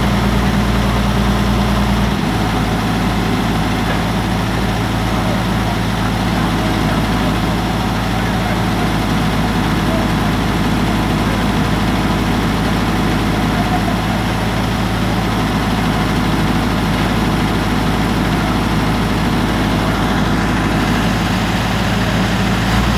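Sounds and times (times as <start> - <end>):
diesel engine running steadily: 0.0 - 22.9.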